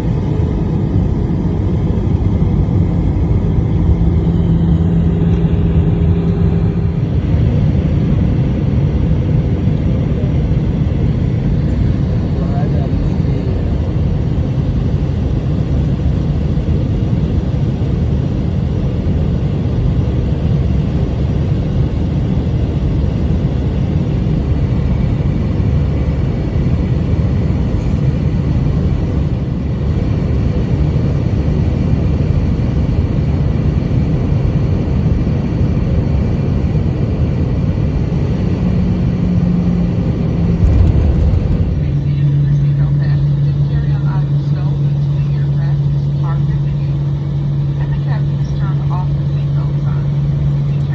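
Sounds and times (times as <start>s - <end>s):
jet engine cabin rumble: 0.0s - 50.9s.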